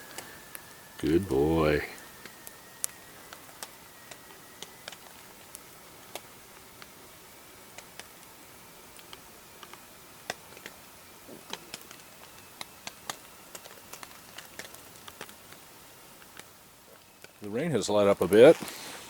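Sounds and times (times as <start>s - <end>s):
rain hiss: 0.0s - 19.0s.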